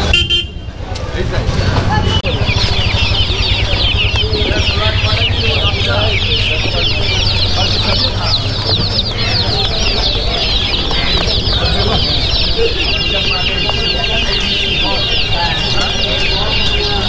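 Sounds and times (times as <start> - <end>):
chicks peeping: 1.2 - 17.0.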